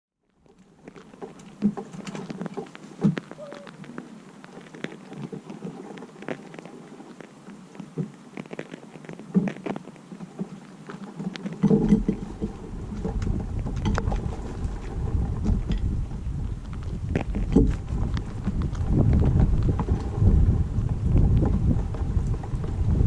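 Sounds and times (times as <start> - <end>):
drips and ticks: 0.3 - 22.7
rain pattering: 0.3 - 23.0
low wind rumble on microphone: 0.8 - 23.0.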